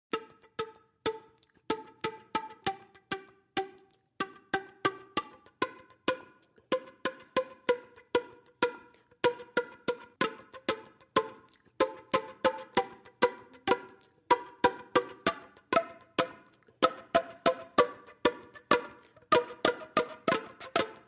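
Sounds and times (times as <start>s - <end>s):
plucked instrumental music: 0.1s - 21.0s.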